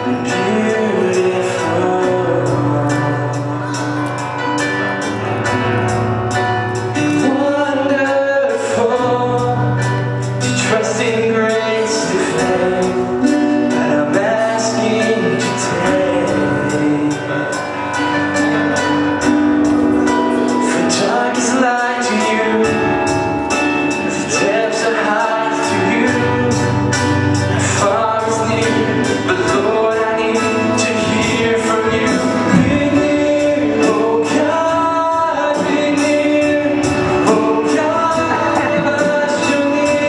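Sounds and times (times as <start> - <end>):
band with a steady beat: 0.0 - 40.0
man singing into a microphone: 0.0 - 40.0
voices singing along: 6.7 - 40.0.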